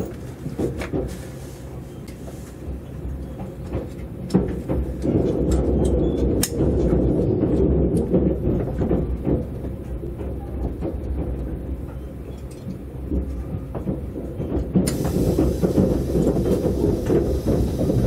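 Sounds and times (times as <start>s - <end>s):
train wheels rumbling: 0.0s - 18.0s
sharp clicks and knocks: 3.4s - 18.0s.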